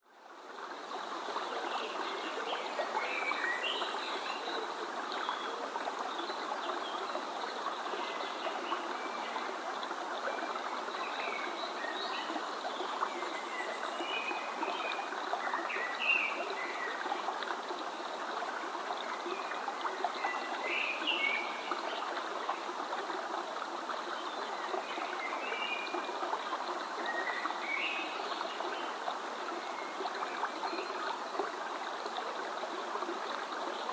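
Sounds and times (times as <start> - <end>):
stream of water running: 0.0 - 33.9.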